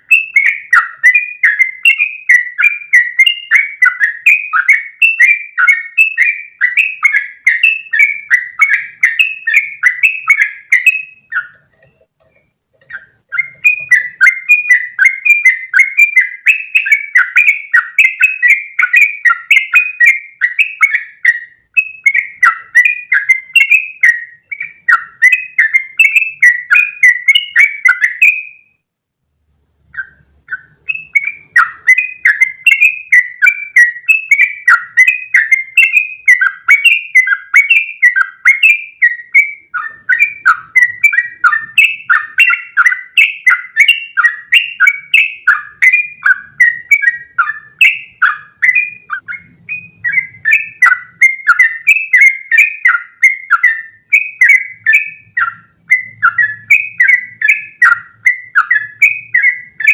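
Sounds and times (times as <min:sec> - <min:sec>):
bird singing bubbly notes: 0:00.0 - 0:28.8, 0:29.9 - 0:59.9.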